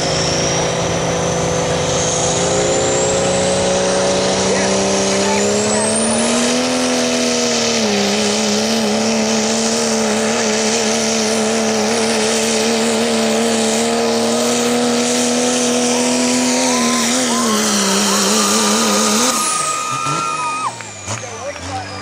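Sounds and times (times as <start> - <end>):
diesel engine at high revs: 0.0 - 22.0.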